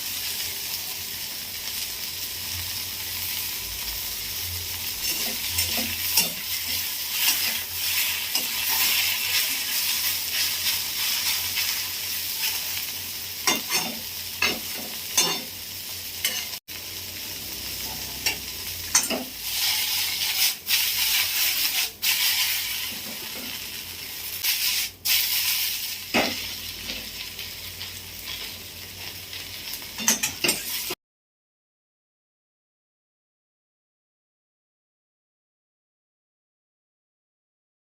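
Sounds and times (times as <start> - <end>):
okra sizzling in hot oil: 0.0 - 31.0.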